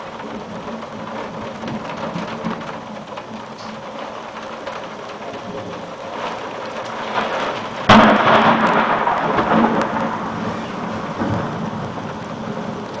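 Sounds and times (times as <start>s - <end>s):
steady rain: 0.0s - 13.0s
thunderclap and rumbling: 0.0s - 13.0s.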